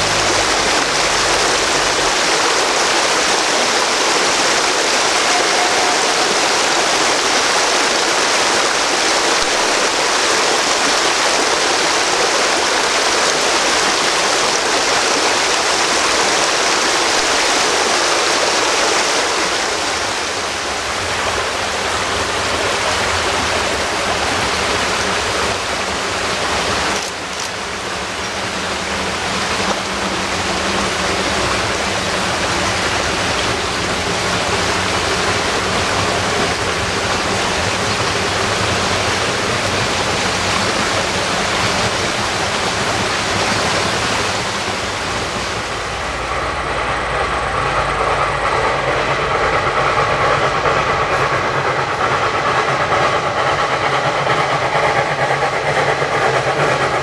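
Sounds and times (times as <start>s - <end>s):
stream rushing: 0.0s - 57.0s
train rumbling past: 0.0s - 57.0s.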